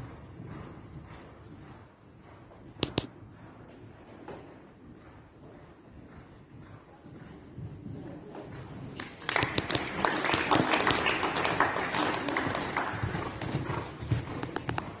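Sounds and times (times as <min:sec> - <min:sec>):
horse hoofbeats on sand: 0:00.0 - 0:09.8, 0:10.4 - 0:15.0.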